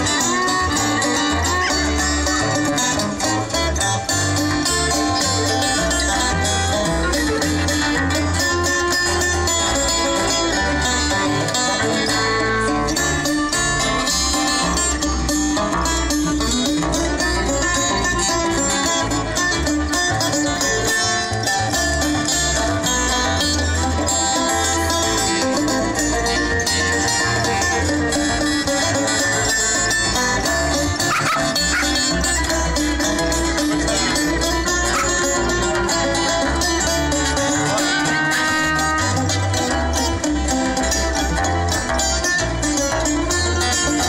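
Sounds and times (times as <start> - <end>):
string band playing: 0.0 - 44.0.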